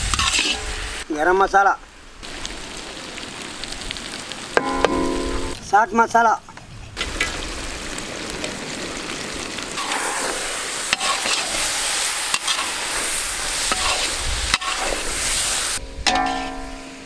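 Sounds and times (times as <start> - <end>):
food sizzling in a wok: 0.0 - 1.2, 2.1 - 5.6, 7.0 - 17.0.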